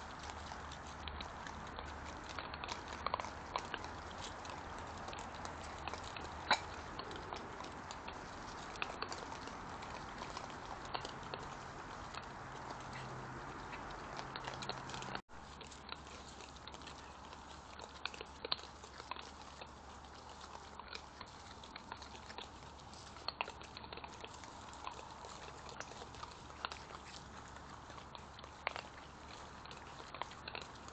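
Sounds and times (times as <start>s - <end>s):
animals chewing with crunches: 0.0s - 30.9s.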